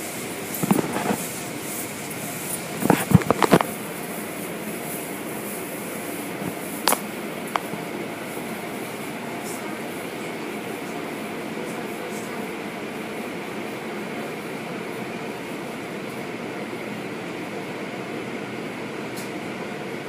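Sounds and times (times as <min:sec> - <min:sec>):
car wash machinery running: 0:00.0 - 0:20.0.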